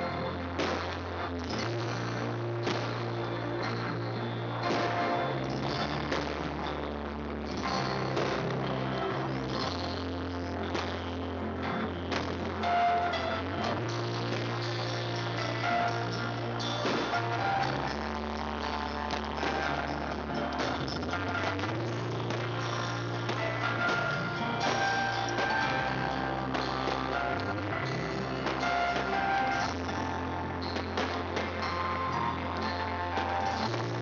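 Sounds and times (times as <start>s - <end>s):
bass guitar notes: 0.0s - 34.0s
loud live rock music: 0.0s - 34.0s.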